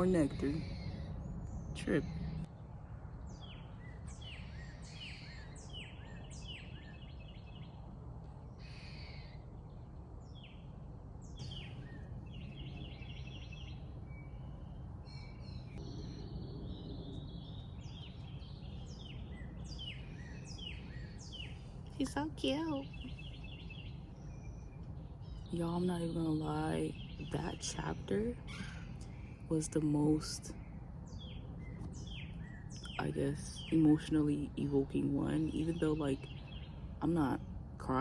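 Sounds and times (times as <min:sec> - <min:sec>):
low background rumble: 0:00.0 - 0:38.0
small birds chirping and trilling: 0:00.0 - 0:38.0.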